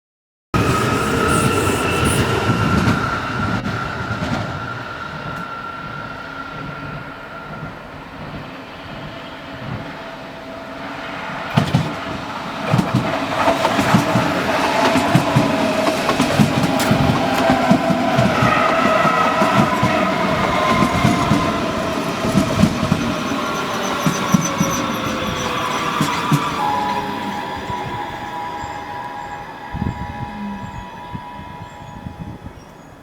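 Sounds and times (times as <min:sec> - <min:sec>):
train wheels clattering: 0:00.6 - 0:29.7
train whining: 0:00.6 - 0:33.0.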